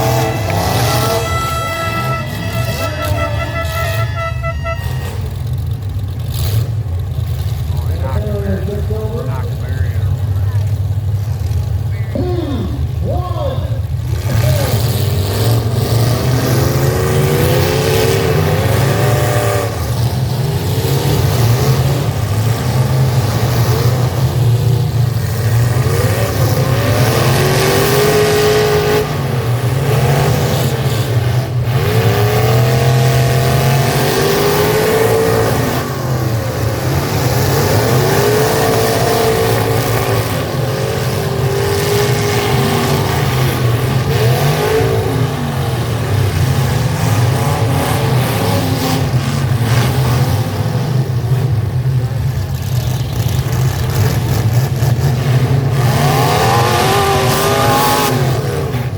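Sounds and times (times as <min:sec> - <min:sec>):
truck engines revving hard: 0:00.0 - 0:58.9.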